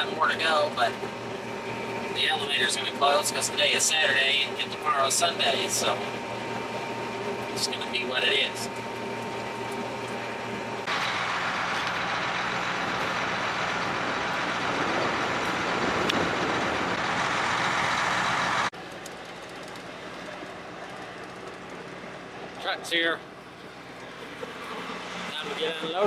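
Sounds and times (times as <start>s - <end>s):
loud rushing machine noise: 0.0s - 22.5s, 23.7s - 26.0s
combine harvester engine hum: 0.0s - 26.0s.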